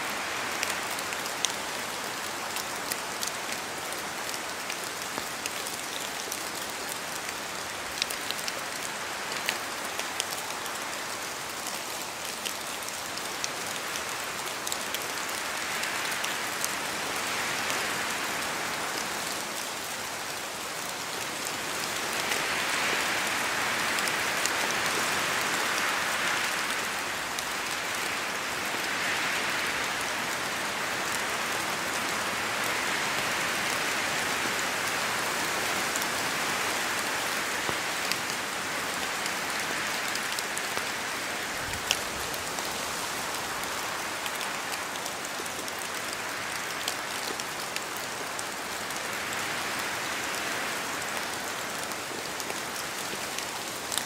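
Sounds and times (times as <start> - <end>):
steady rain: 0.0 - 54.0
wind gusts through trees: 0.0 - 54.0.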